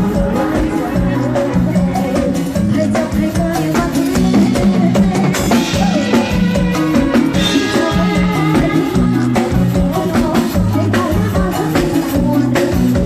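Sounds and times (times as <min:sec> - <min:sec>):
drum kit beat: 0:00.0 - 0:13.0
live band playing: 0:00.0 - 0:13.0.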